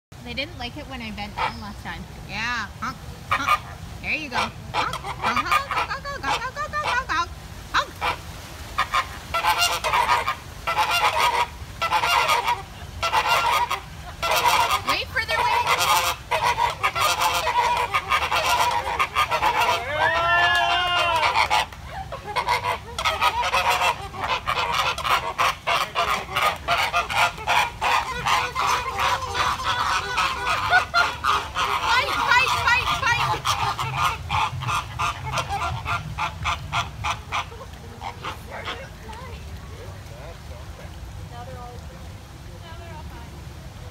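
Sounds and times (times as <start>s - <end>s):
flamingos honking: 0.2s - 41.6s.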